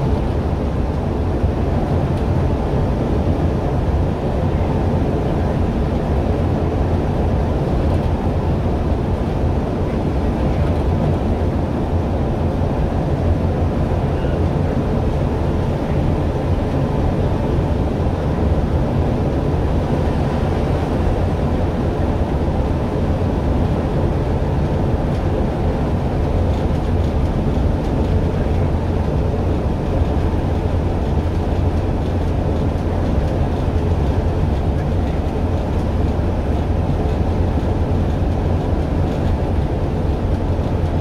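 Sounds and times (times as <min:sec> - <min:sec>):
bus interior drone: 0:00.0 - 0:41.0.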